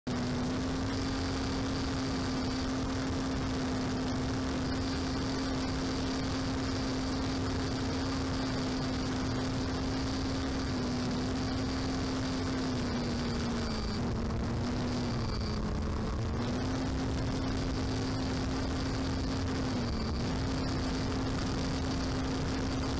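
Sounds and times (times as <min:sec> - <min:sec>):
electric motor and propeller hum: 0:00.1 - 0:22.9.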